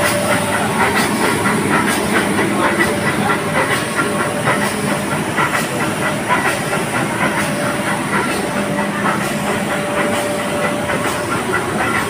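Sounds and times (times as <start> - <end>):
train coaches rumbling: 0.0 - 12.0.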